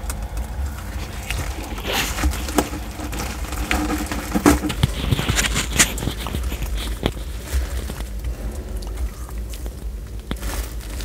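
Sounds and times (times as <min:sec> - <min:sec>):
low steady rumble: 0:00.0 - 0:11.0
tortoise chewing wet fruit: 0:00.0 - 0:11.0.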